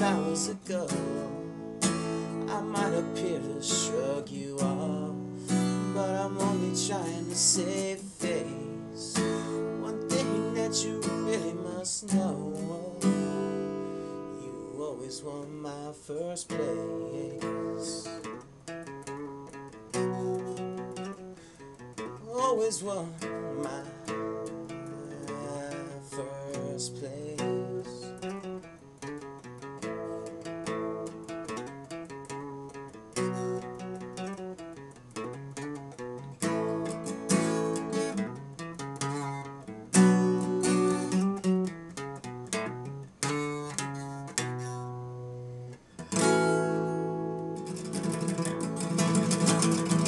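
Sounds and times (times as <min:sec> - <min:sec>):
acoustic guitar playing: 0:00.0 - 0:50.0.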